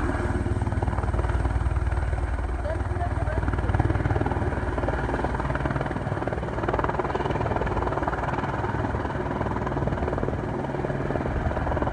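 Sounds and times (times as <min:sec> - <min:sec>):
helicopter rotor beating: 0:00.0 - 0:11.9.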